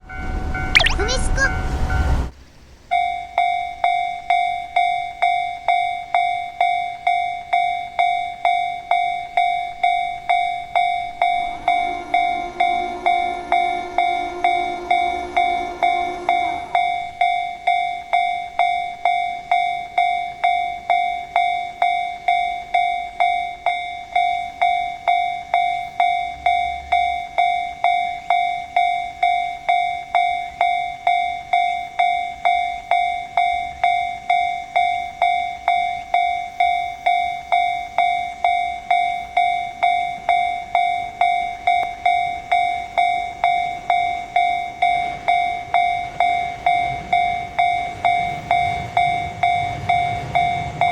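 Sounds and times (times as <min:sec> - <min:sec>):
level crossing warning bell: 0:00.0 - 0:02.2, 0:02.9 - 0:50.9
low steady tone: 0:02.9 - 0:50.9.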